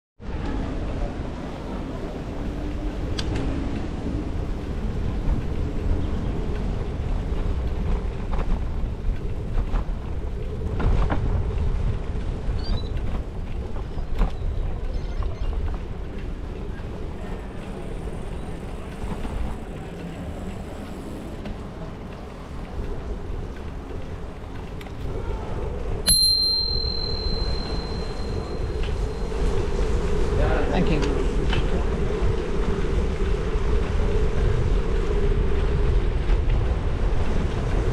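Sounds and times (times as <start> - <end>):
wind rumble on microphone: 0.2 - 37.9.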